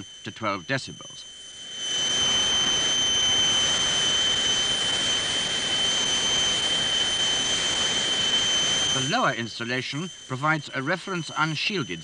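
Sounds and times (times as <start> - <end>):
steady high tone: 0.0 - 12.0.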